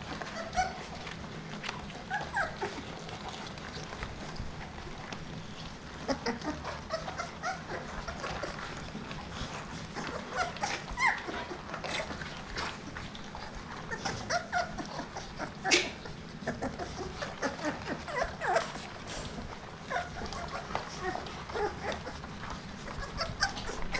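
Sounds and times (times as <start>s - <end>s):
kibble crunching and clicks: 0.0s - 23.9s
puppies whimpering and yipping: 0.0s - 23.9s.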